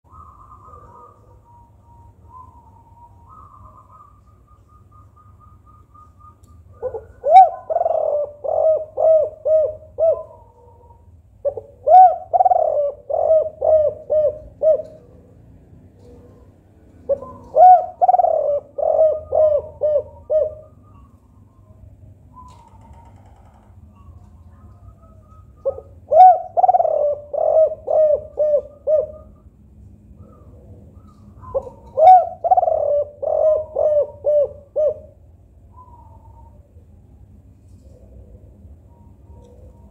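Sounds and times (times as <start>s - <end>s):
dove cooing: 0.1s - 4.4s, 6.7s - 21.1s, 22.4s - 29.5s, 30.1s - 39.9s.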